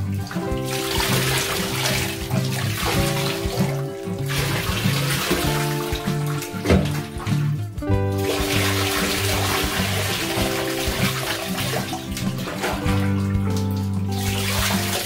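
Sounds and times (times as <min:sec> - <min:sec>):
background music with bass line: 0:00.0 - 0:15.0
water splashing into bathtub: 0:00.0 - 0:15.0.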